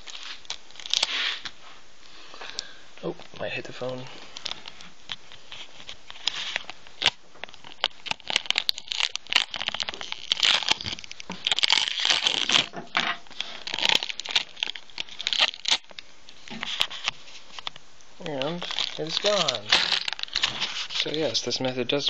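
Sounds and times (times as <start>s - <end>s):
adhesive tape crinkling: 0.0s - 1.6s, 2.5s - 21.5s.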